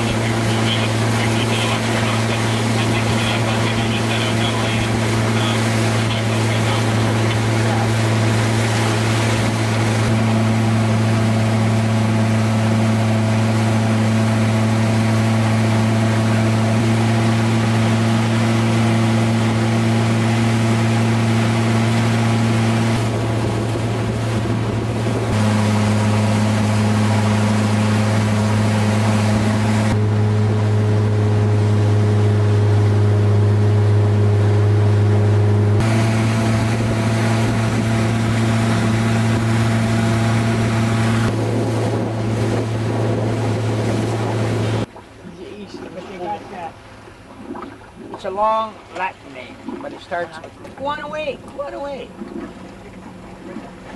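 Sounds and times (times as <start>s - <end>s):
motorboat engine droning: 0.0s - 53.9s
rushing boat wake and spray: 0.0s - 53.9s.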